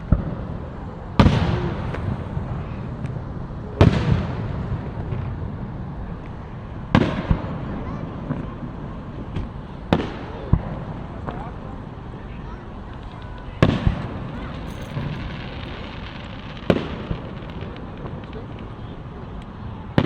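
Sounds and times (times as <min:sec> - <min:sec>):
fireworks banging with echo: 0:00.0 - 0:20.0.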